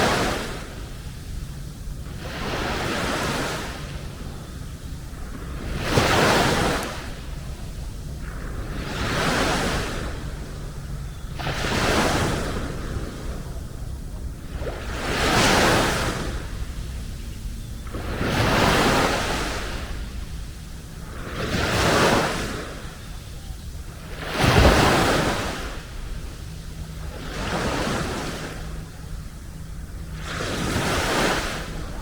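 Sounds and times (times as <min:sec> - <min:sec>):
sea waves breaking on beach: 0:00.0 - 0:32.0
steady low rumble: 0:00.0 - 0:32.0.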